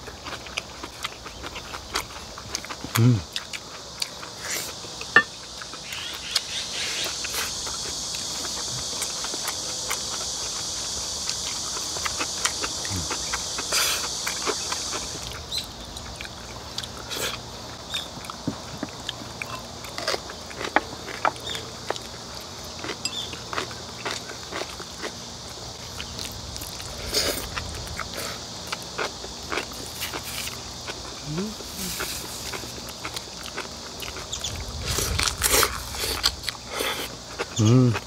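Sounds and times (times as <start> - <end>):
chewing and slurping: 0.0 - 38.0
high insect drone: 0.0 - 38.0.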